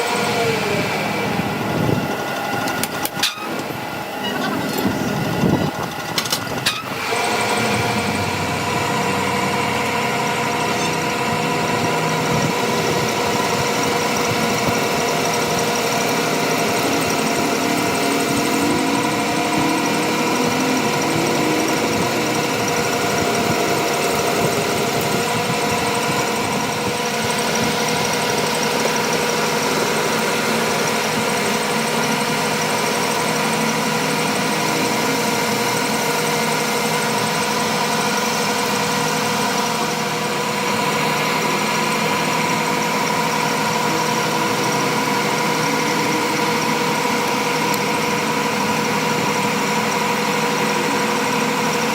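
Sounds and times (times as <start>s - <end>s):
machine humming: 0.0s - 51.9s.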